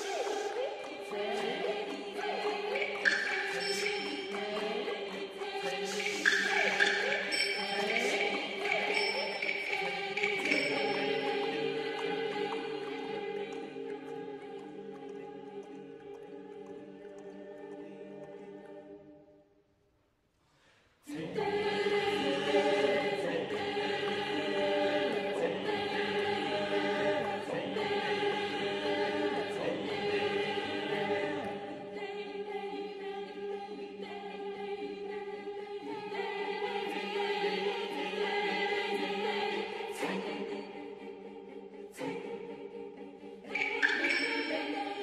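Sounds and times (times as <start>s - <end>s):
choir singing sustained chords: 0.0s - 19.3s, 21.1s - 45.0s.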